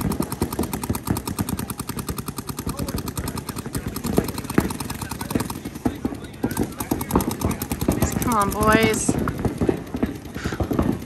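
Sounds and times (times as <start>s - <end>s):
paintball markers firing rapidly: 0.0s - 11.0s.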